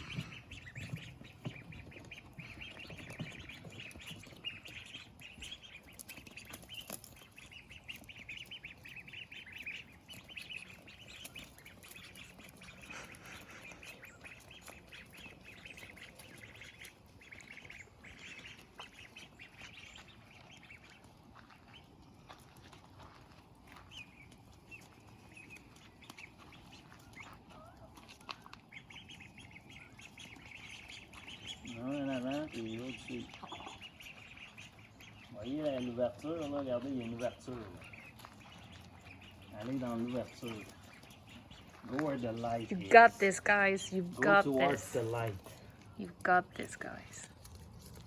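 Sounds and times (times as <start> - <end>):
ducklings peeping: 0.0 - 48.0.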